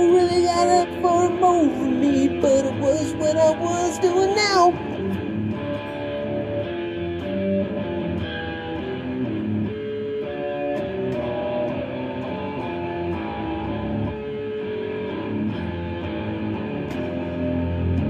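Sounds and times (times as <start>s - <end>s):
electric guitar picked chords: 0.0s - 18.0s.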